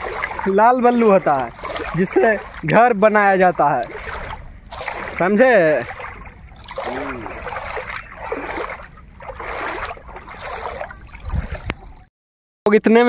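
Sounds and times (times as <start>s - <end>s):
feet wading through water: 0.0s - 12.1s.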